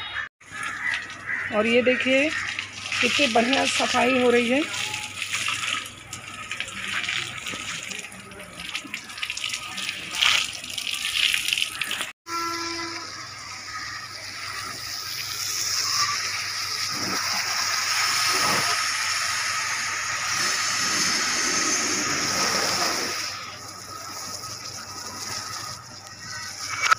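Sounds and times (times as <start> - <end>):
hose water spraying on car: 2.2 - 12.1, 13.1 - 26.9.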